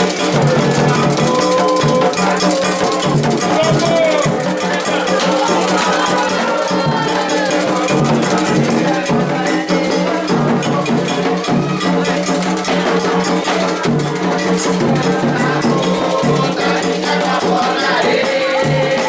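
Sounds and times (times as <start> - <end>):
bell: 0.0 - 19.0
fast drums: 0.0 - 19.0
shakers: 0.0 - 19.0.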